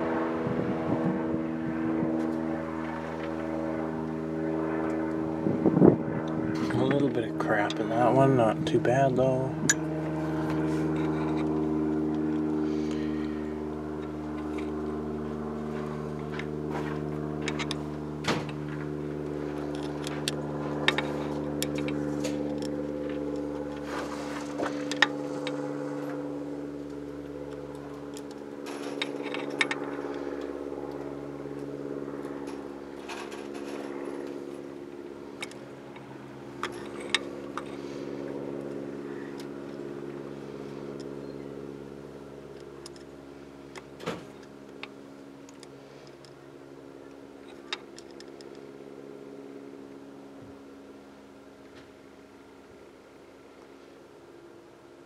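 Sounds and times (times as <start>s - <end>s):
engine-like drone: 0.0s - 55.0s.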